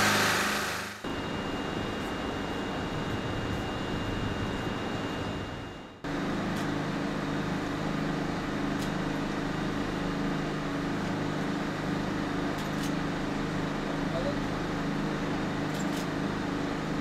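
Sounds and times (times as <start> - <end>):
locomotive machinery hum: 0.0 - 17.0.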